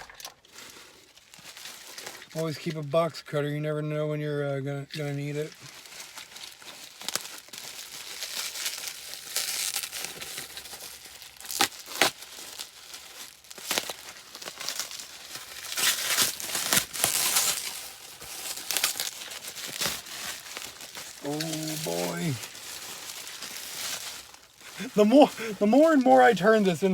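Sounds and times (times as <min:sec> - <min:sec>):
plastic packaging crinkling and tearing: 0:00.0 - 0:02.8, 0:05.0 - 0:26.9.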